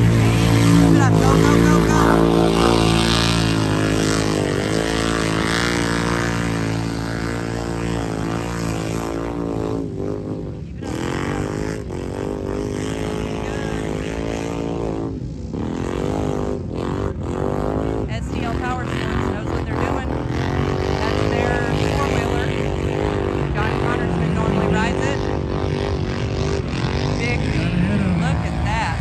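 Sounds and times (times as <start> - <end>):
race engines revving hard: 0.0 - 29.0.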